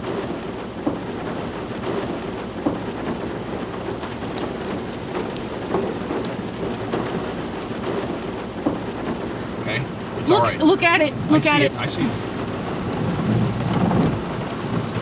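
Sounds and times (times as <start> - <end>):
raindrops tapping: 0.0 - 15.0
steady rain hissing: 0.0 - 15.0.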